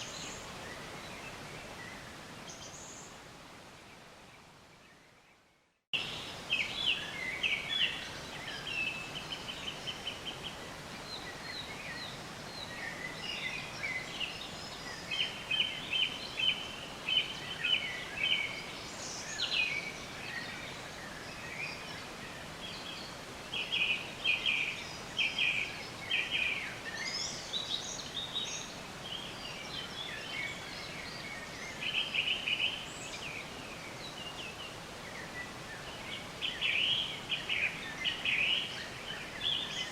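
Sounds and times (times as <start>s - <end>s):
steady outdoor hiss: 0.0s - 39.9s
songbirds chirping and singing: 6.0s - 39.9s.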